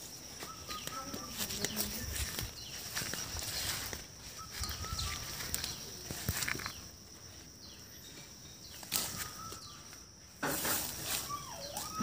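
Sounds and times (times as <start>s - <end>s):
faint bird chirps: 0.1s - 10.4s, 11.0s - 12.0s.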